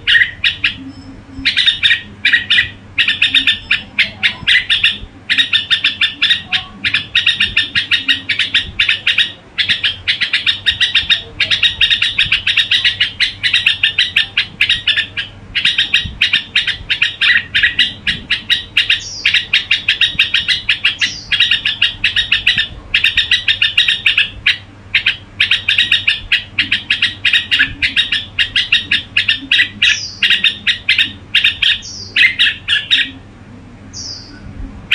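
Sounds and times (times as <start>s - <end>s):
bird chattering calls: 0.0s - 33.2s, 33.9s - 34.5s.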